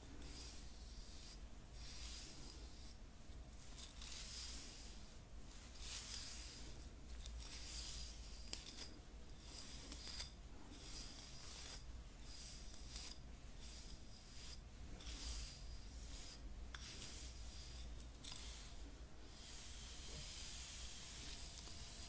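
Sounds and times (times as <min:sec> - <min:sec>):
hairbrush bristles scratching: 0:00.0 - 0:22.0.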